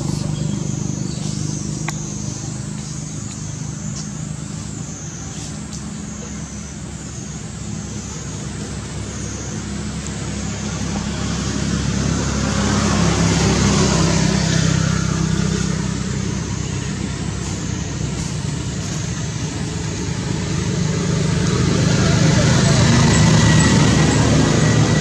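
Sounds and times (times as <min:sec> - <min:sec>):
road hiss: 0:00.0 - 0:25.0
vehicle engine running: 0:00.0 - 0:25.0.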